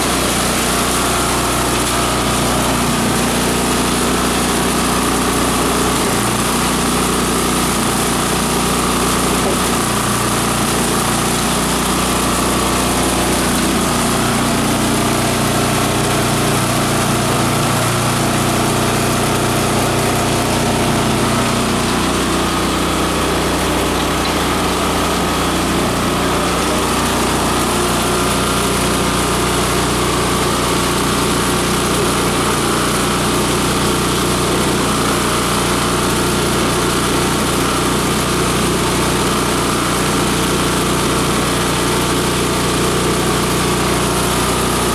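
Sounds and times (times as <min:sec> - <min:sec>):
shredder machine grinding plant material: 0:00.0 - 0:44.9.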